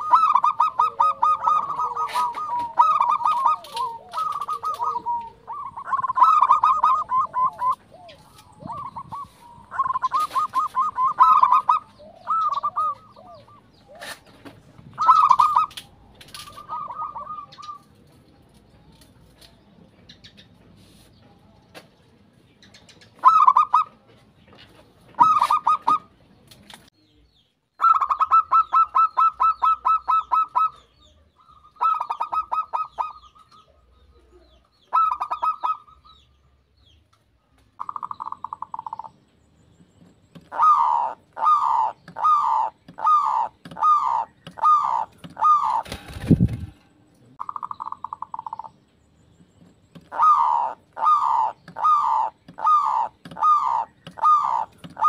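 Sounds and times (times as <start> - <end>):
doves cooing: 0.0 - 18.4, 23.1 - 24.1, 25.1 - 26.1, 27.8 - 36.2, 37.8 - 48.8, 49.5 - 55.0.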